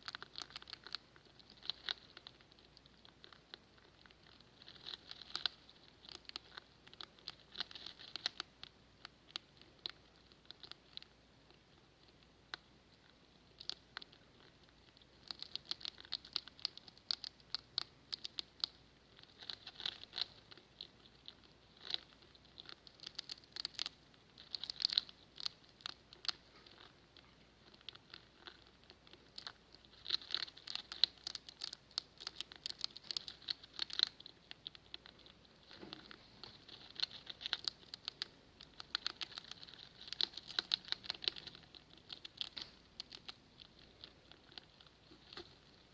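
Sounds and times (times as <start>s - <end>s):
rats making crackling clicks: 0.0s - 45.9s.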